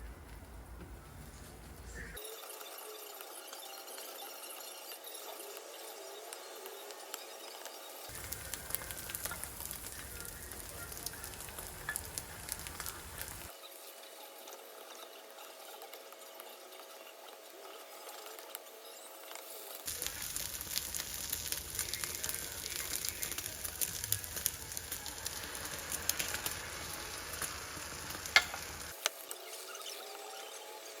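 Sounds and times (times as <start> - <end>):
food sizzling in a pan: 2.2 - 31.0.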